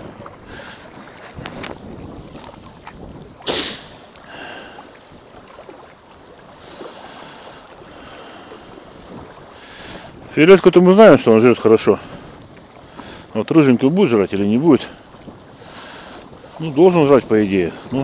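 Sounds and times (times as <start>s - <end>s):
waves lapping against rocks: 0.0s - 18.0s
wind on the microphone: 0.0s - 18.0s.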